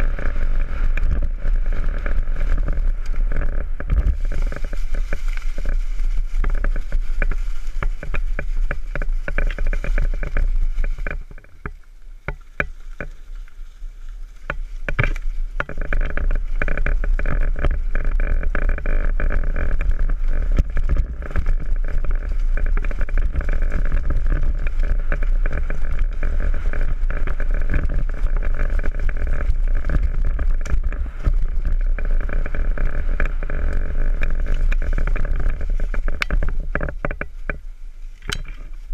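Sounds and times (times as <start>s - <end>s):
bike rattling and clacking: 0.0s - 38.9s
mountain bike rumbling on rough trail: 0.0s - 38.9s.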